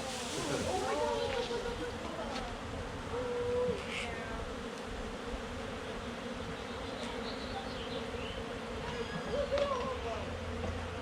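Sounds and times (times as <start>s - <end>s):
bee swarm humming: 0.0s - 11.0s
single bee buzzing close by: 0.0s - 11.0s.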